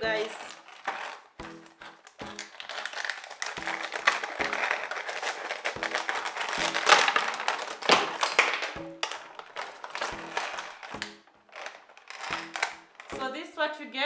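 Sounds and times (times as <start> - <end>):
plastic packaging crinkling: 0.0 - 13.2
quiet background music: 0.0 - 14.0.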